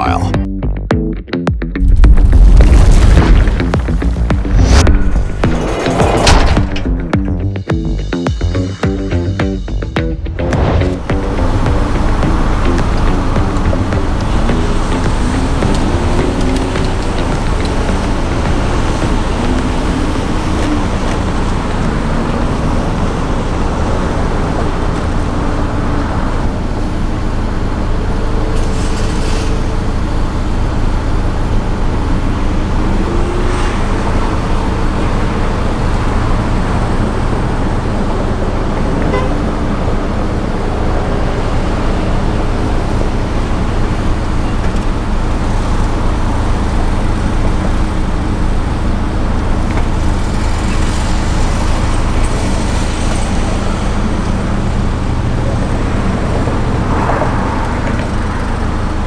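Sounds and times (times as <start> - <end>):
road traffic noise: 0.0 - 0.4, 1.8 - 59.0.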